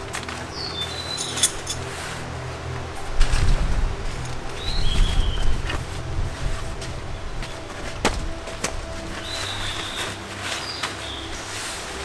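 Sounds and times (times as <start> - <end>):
wind gusting on microphone: 0.0 - 12.0.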